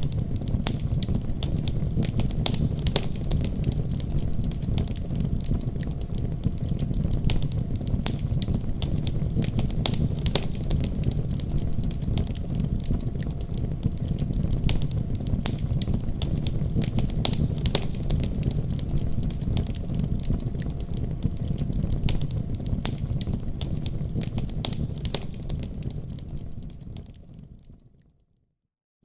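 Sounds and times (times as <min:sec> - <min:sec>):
fireplace flames rumbling: 0:00.0 - 0:28.0
burning wood crackles and pops: 0:00.0 - 0:28.2.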